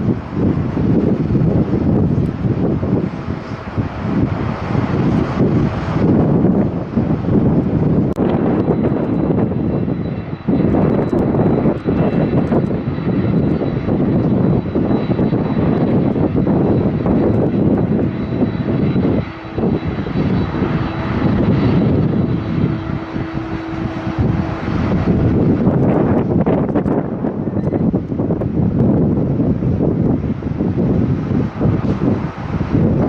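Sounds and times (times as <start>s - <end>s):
high engine whine: 0.0s - 33.0s
jet engines roaring: 0.0s - 33.0s
wind buffeting microphone: 0.0s - 33.0s.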